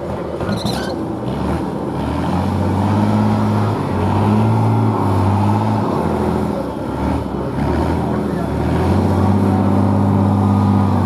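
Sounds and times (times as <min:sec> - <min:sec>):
truck engine running hard: 0:00.0 - 0:11.0.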